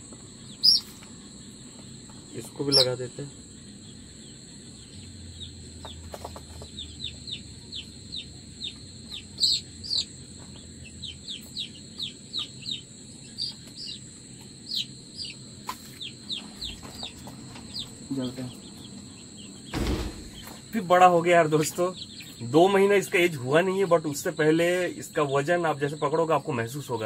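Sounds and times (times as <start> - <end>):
chick peeping: 0.0 - 27.0.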